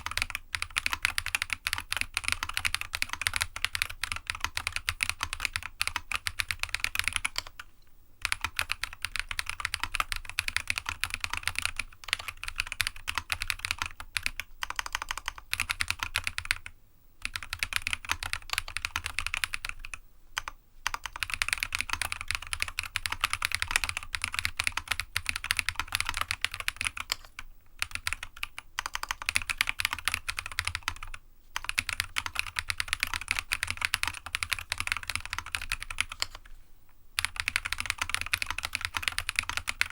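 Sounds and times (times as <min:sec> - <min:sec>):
mechanical keyboard typing: 0:00.0 - 0:07.6, 0:08.2 - 0:36.5, 0:37.2 - 0:39.9.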